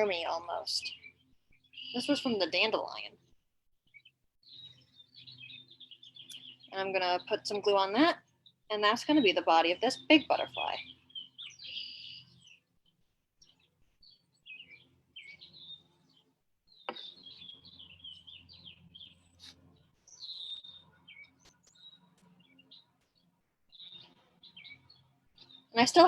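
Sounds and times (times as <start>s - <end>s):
songbirds chirping: 0.0s - 3.3s, 3.9s - 26.0s.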